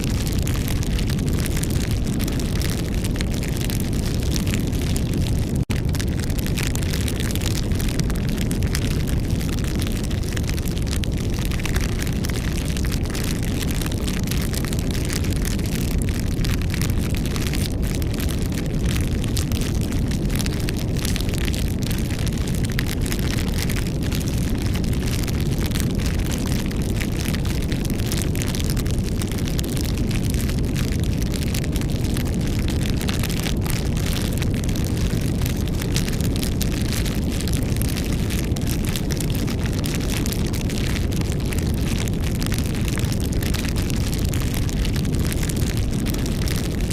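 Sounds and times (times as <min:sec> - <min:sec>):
campfire flames roaring: 0:00.0 - 0:46.9
wood crackling and popping: 0:00.0 - 0:46.9.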